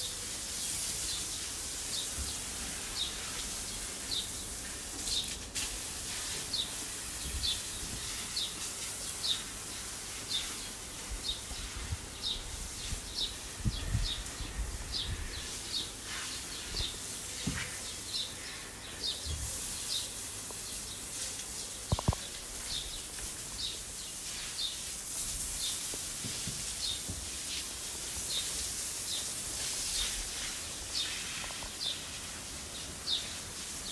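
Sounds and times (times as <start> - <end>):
steady hiss: 0.0 - 33.9.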